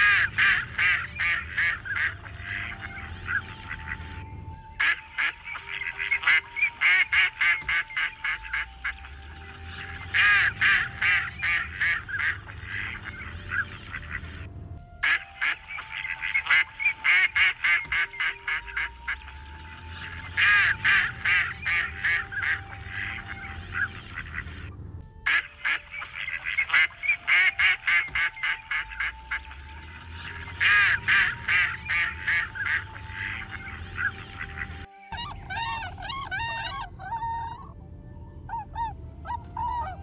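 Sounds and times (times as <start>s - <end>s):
ducks quacking: 0.0s - 24.7s, 25.3s - 37.8s.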